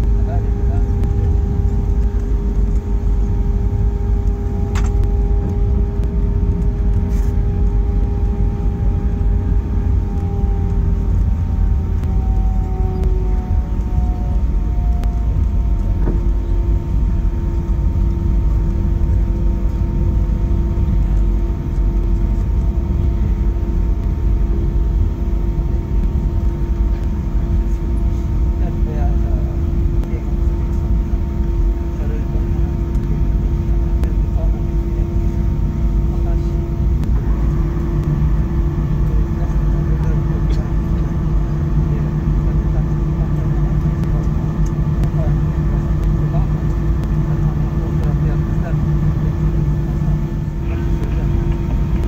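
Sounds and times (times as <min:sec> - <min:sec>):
jet engine whine: 0:00.0 - 0:52.0
jet engines and wheels rumbling: 0:00.0 - 0:52.0.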